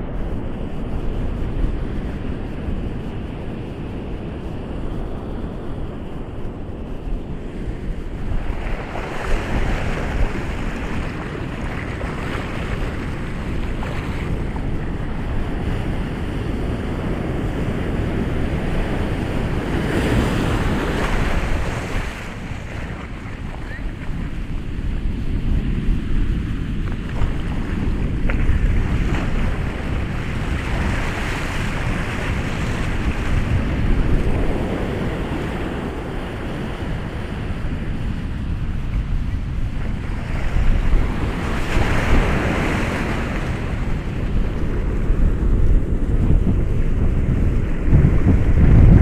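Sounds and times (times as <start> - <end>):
ocean waves breaking: 4.4 - 49.0.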